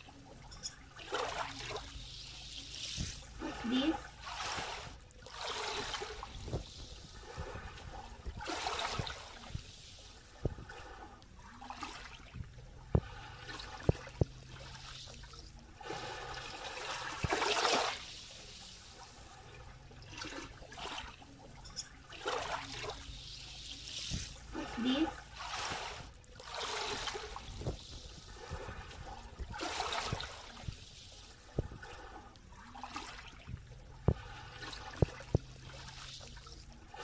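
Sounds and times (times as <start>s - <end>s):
waves lapping on pebbly shore: 0.0s - 12.2s, 12.9s - 33.3s.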